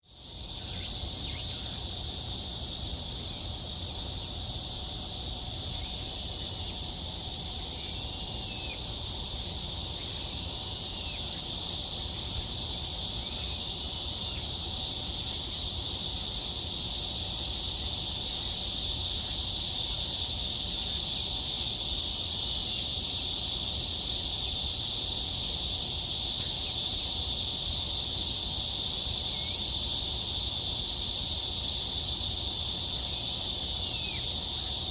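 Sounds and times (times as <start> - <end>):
cicadas chorus: 0.0 - 34.9.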